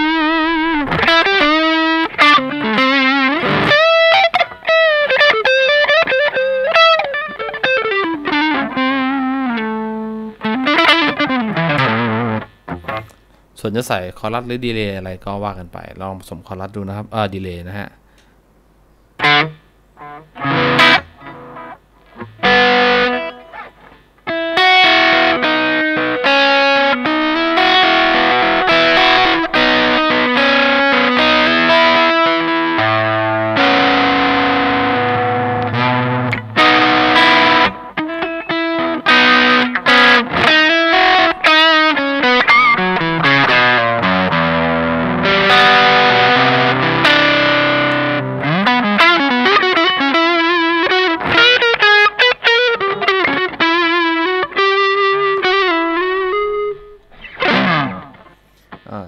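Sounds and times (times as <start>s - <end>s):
distorted electric guitar: 0.0s - 15.5s, 19.2s - 59.0s.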